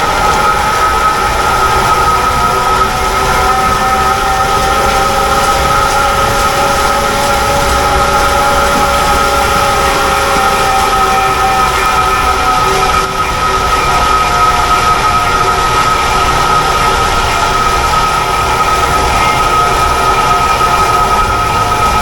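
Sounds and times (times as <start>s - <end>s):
lathe knives carving wood: 0.0s - 22.0s.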